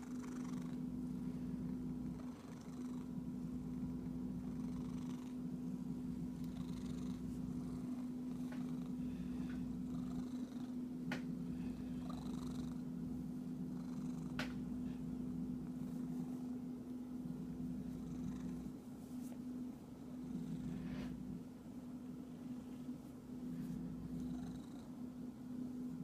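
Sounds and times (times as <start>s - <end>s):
cat purring: 0.0s - 18.8s, 19.8s - 21.5s, 22.1s - 26.0s.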